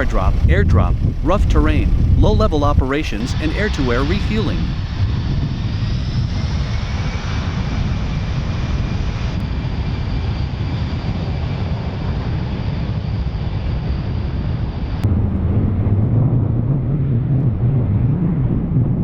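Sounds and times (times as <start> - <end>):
faint high engine whine: 0.0 - 18.8
jet engines running loud: 0.0 - 19.0.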